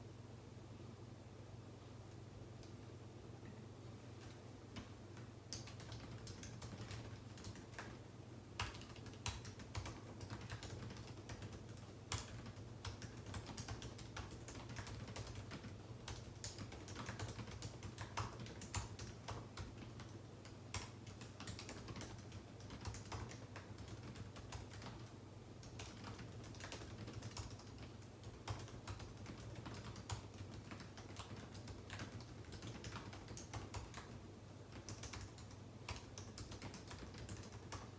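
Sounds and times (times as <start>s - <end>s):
low steady hum: 0.0s - 37.9s
typing on computer keyboard: 5.5s - 8.0s, 8.6s - 37.9s.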